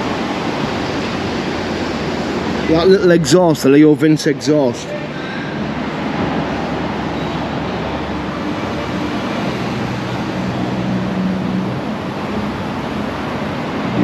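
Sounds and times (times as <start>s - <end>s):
traffic rushing: 0.0s - 14.0s.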